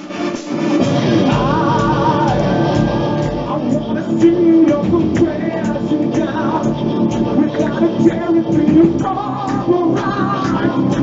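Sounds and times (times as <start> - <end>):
live rock band playing: 0.1 - 11.0
drum hits: 0.6 - 11.0
man singing into microphone: 1.2 - 11.0.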